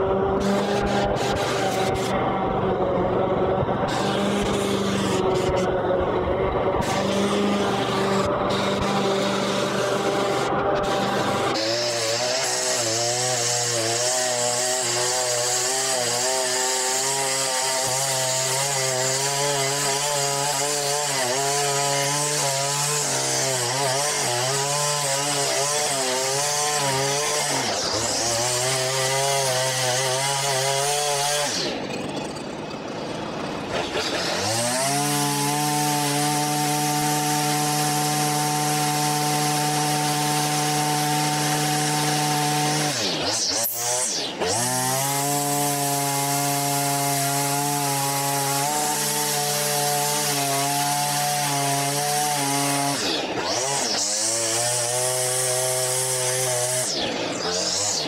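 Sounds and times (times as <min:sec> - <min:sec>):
grass trimmer engine running: 0:00.0 - 0:58.0.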